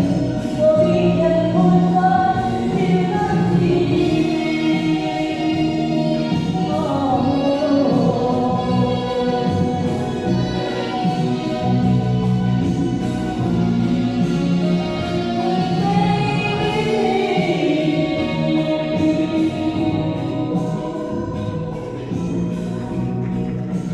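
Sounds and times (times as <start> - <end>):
backing track music: 0.0 - 23.9
person singing karaoke: 0.0 - 23.9.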